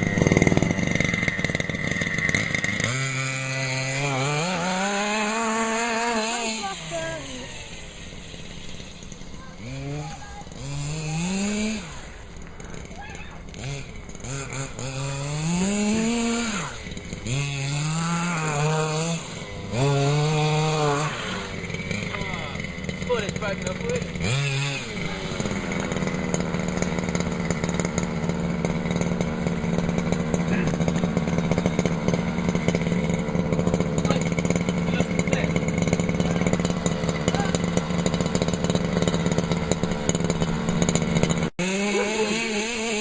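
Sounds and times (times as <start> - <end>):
small engine revving: 0.0 - 43.0.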